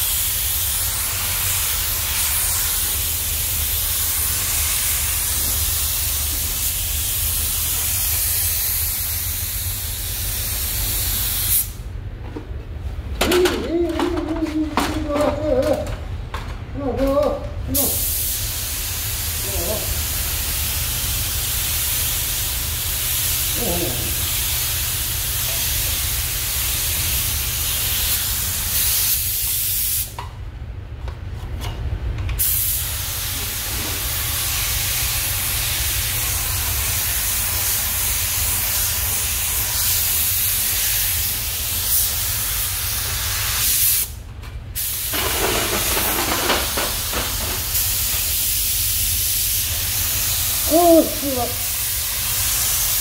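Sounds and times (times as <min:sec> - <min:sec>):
paint spray gun hissing: 0:00.0 - 0:11.8, 0:17.8 - 0:30.1, 0:32.4 - 0:44.1, 0:44.8 - 0:53.0.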